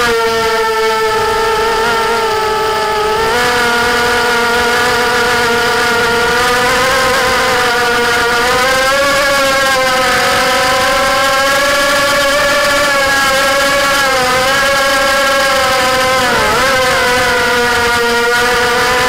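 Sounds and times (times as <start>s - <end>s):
quadcopter motors buzzing whine: 0.0s - 19.0s.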